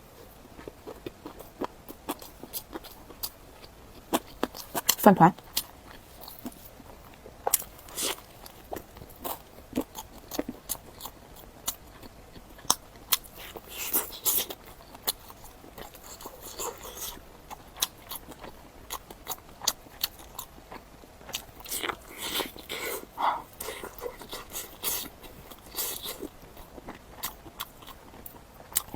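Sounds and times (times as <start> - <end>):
chewing with crisp crunches: 0.0 - 28.9.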